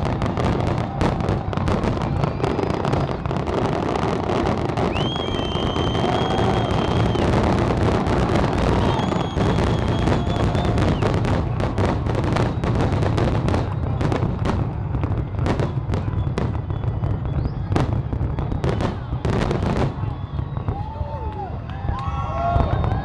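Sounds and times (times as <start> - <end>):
fireworks bursts and bangs: 0.0 - 23.0
fireworks crackle: 0.0 - 23.0.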